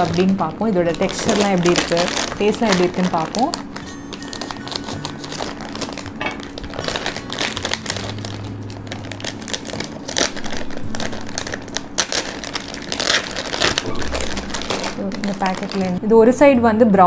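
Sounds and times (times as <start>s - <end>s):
food packet crinkling: 0.0s - 16.0s.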